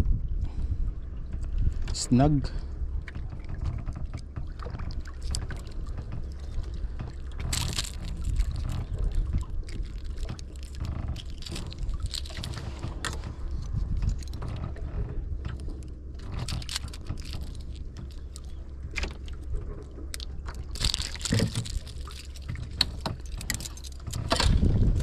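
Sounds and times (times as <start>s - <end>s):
low rumble: 0.0s - 25.0s
metallic clicks and rattles: 3.6s - 14.8s, 15.5s - 25.0s.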